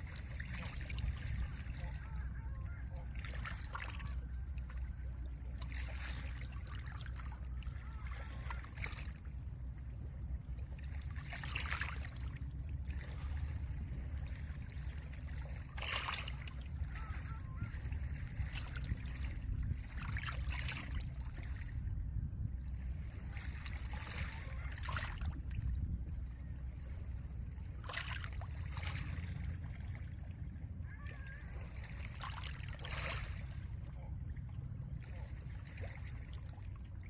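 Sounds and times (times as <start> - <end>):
low wind rumble: 0.0 - 37.0.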